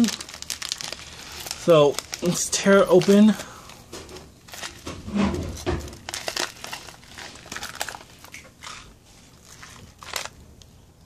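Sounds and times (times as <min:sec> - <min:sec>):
foil sachet crinkling: 0:00.0 - 0:11.0.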